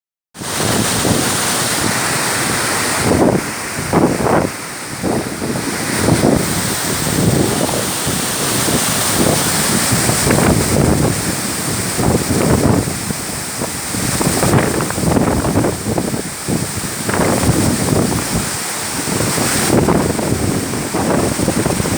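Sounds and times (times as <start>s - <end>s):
waterfall rushing: 0.4s - 21.9s
wind buffeting microphone: 0.4s - 21.9s.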